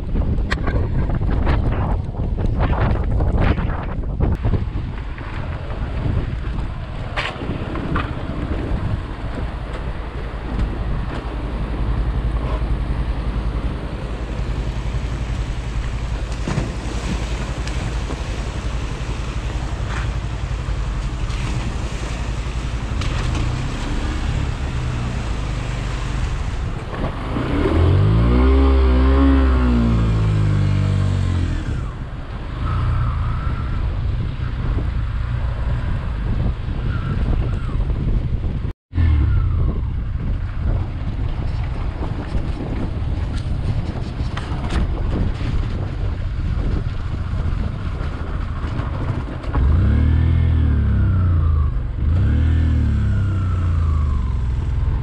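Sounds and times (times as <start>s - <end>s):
tyre and road noise: 0.0s - 55.0s.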